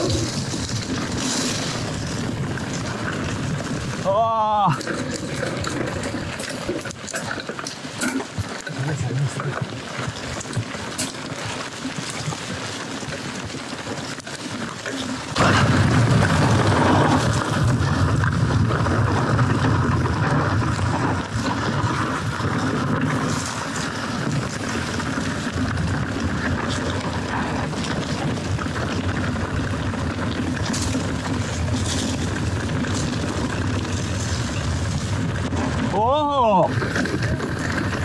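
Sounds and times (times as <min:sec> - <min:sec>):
wind buffeting microphone: 0:00.0 - 0:13.6, 0:15.3 - 0:38.0
bike rattling: 0:00.0 - 0:38.0
bike tyres on dirt trail: 0:00.0 - 0:38.0.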